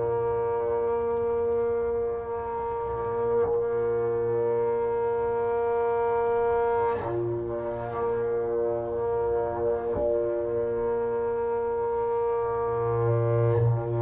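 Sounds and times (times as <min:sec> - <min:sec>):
wind instrument melody: 0:00.0 - 0:14.0.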